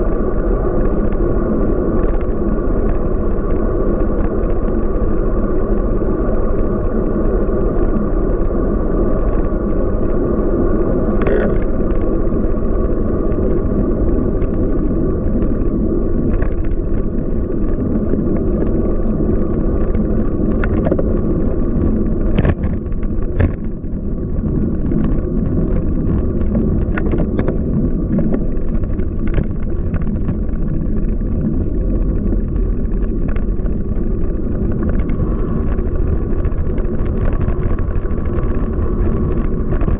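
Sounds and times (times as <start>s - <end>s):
bicycle rolling and wind rush: 0.0s - 39.9s.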